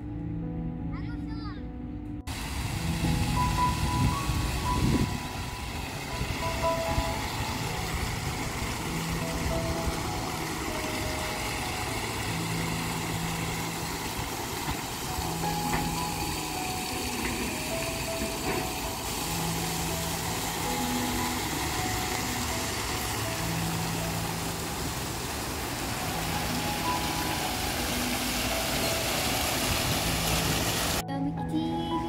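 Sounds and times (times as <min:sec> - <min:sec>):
fountain water splashing: 0:02.3 - 0:31.0.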